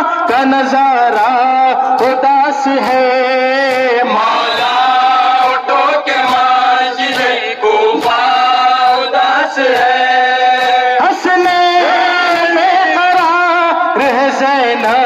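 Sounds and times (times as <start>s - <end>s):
man chanting: 0.0s - 15.0s
chest-beating slaps: 1.1s - 13.5s.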